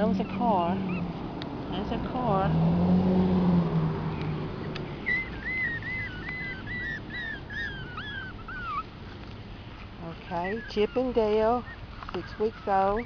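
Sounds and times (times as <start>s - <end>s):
car engine hum passing: 0.0s - 13.0s.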